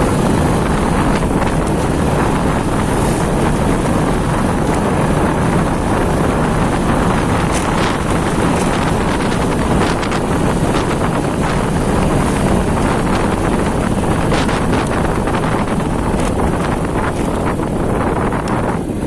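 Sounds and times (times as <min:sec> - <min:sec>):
motorcycle engine running: 0:00.0 - 0:19.0
wind rush on microphone: 0:00.0 - 0:19.0.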